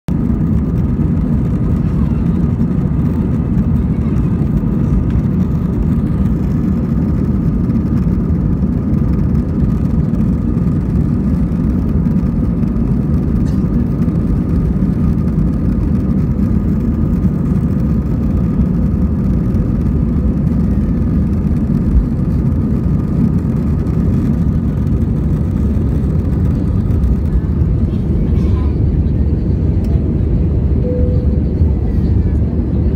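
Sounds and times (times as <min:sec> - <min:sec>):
faint steady whine: 0:00.1 - 0:32.9
jet engine rumble in cabin: 0:00.1 - 0:32.9.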